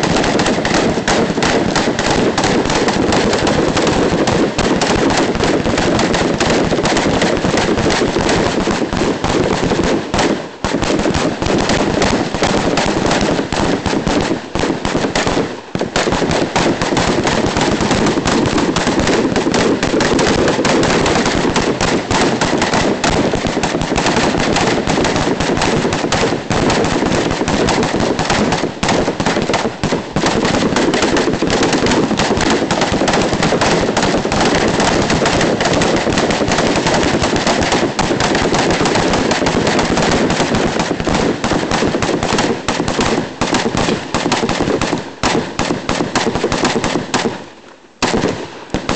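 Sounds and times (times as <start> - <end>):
rifles firing: 0.0 - 48.9.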